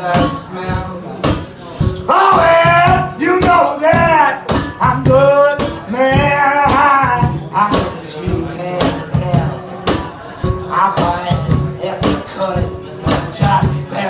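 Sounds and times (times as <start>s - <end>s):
man singing: 0.0s - 14.0s
strummed acoustic guitar: 0.0s - 14.0s.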